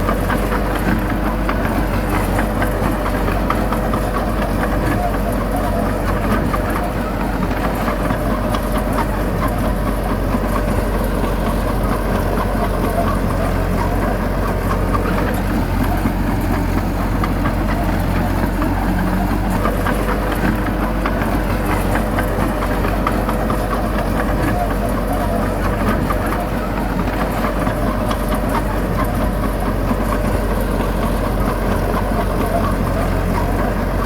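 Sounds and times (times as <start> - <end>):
heavy diesel engine clattering: 0.0 - 34.0.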